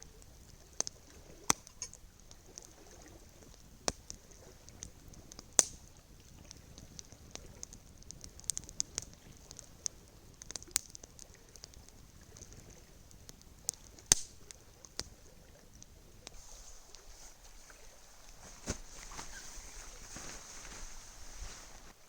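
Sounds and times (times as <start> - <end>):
campfire crackling and popping: 0.0 - 22.0
faint hiss: 0.0 - 22.0.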